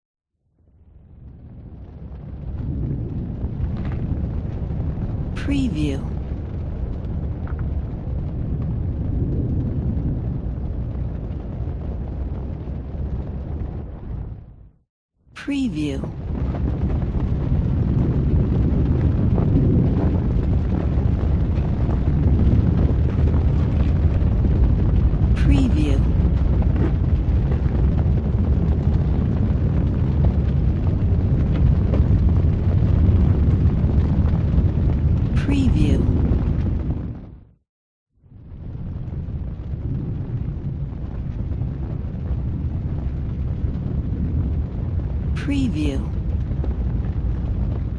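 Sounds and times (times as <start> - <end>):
deep rumble of boiling lava: 0.4 - 5.4, 6.0 - 14.8, 16.1 - 35.4, 36.0 - 37.6, 38.2 - 45.4, 46.0 - 47.9.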